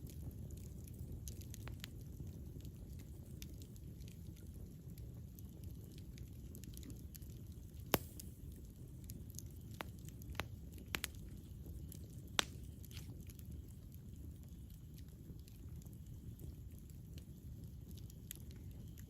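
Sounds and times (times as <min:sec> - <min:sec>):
burning wood crackles and pops: 0:00.0 - 0:19.0
campfire flames rumbling: 0:00.0 - 0:19.0.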